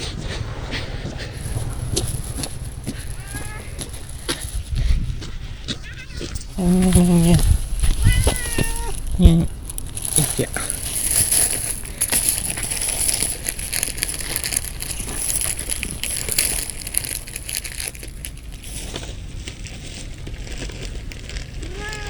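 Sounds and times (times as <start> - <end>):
cat crunching dry food: 1.3 - 22.0.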